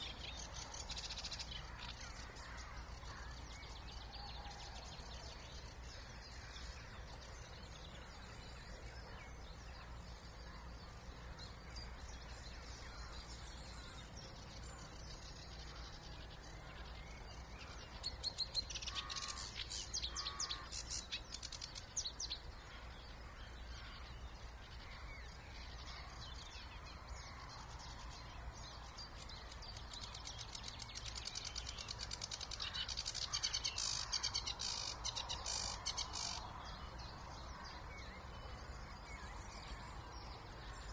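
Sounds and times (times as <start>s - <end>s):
high trilled birdsong: 0.0s - 40.9s
quiet bird calls: 0.0s - 40.9s.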